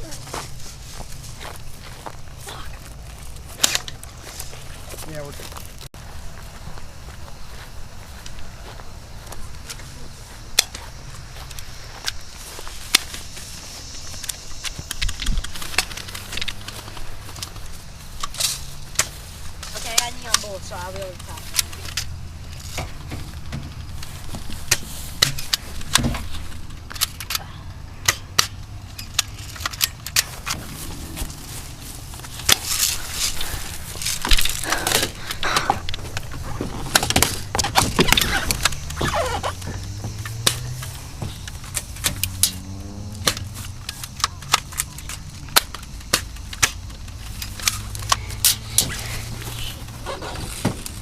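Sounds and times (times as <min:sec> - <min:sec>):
rustling and crackling: 0:00.0 - 0:51.0.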